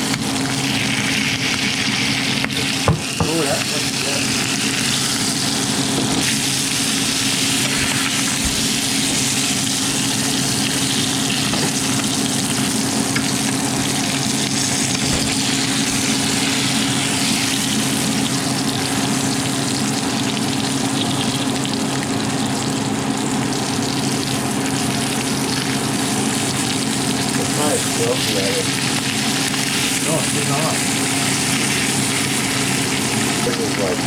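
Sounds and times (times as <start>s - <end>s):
fish frying in hot oil: 0.0s - 34.0s.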